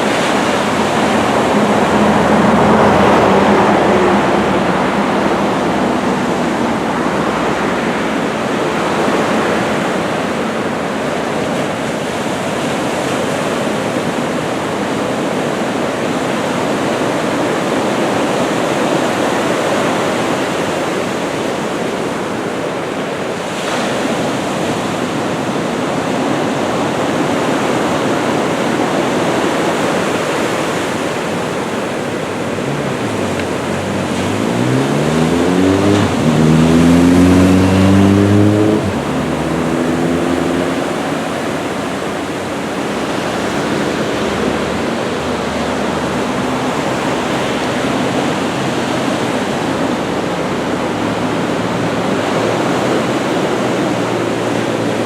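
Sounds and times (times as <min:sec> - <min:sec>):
passing motor vehicle engine: 0:00.0 - 0:24.9, 0:26.8 - 0:55.0
ocean waves breaking: 0:00.0 - 0:55.0.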